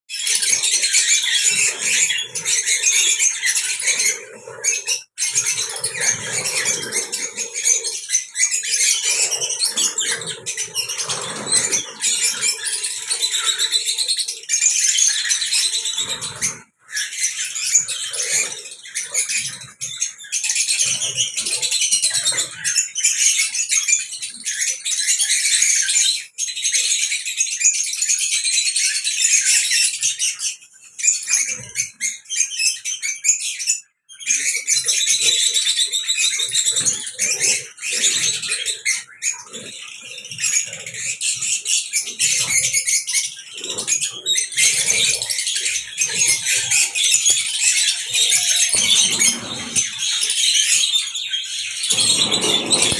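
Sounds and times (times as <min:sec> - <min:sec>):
caged birds chirping and twittering: 0:00.1 - 0:52.9.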